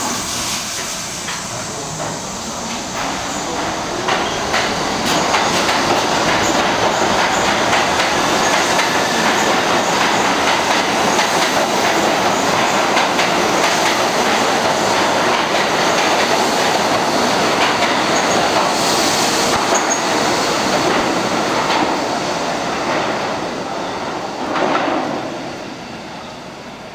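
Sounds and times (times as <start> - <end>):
train wheels clattering over rails: 0.0 - 25.5.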